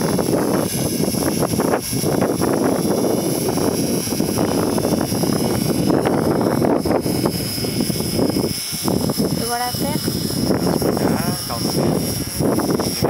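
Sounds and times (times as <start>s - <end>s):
high steady whine: 0.0s - 13.0s
model helicopter rotor and engine: 0.0s - 13.0s.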